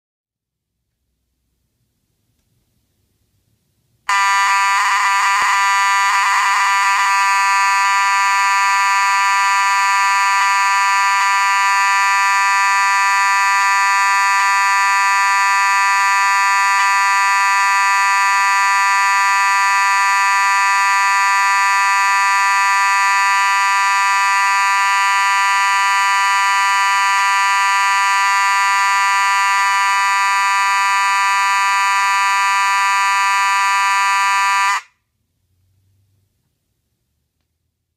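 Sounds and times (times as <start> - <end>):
fire alarm horn buzzing: 4.1 - 35.0.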